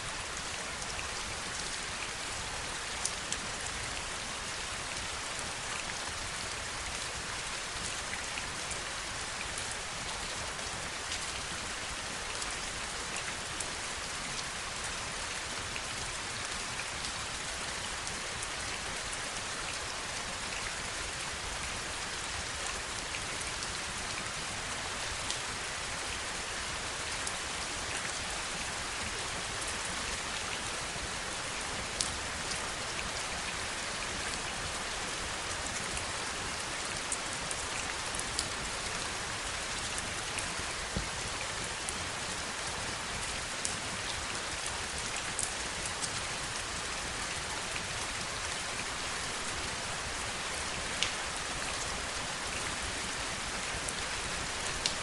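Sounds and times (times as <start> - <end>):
heavy rain falling: 0.1 - 55.0.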